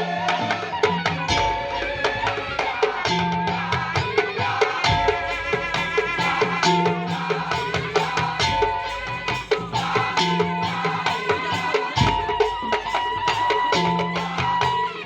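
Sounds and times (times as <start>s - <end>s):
percussion ensemble playing: 0.0s - 15.0s.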